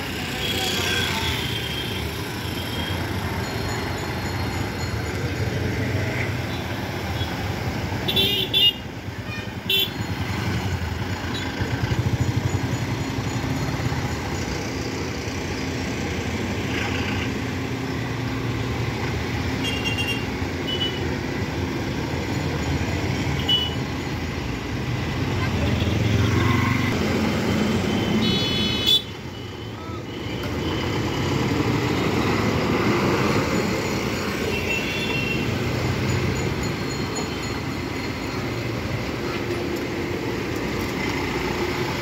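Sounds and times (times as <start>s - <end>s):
bus engines passing: 0.0s - 42.0s
road traffic: 0.0s - 42.0s.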